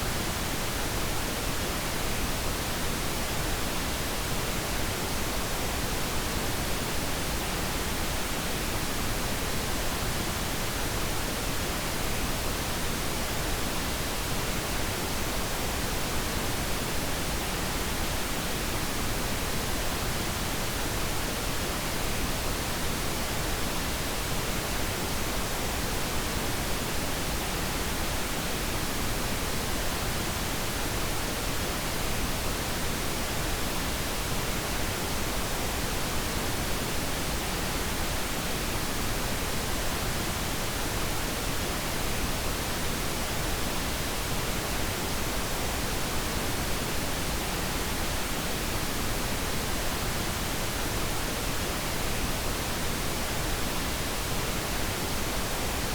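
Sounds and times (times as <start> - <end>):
steady noise hiss: 0.0 - 55.9.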